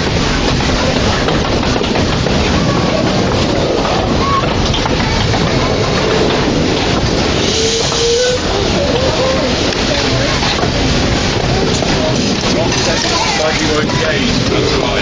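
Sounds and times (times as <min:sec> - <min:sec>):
steam hiss: 0:00.0 - 0:15.0
steam locomotive running: 0:00.0 - 0:15.0.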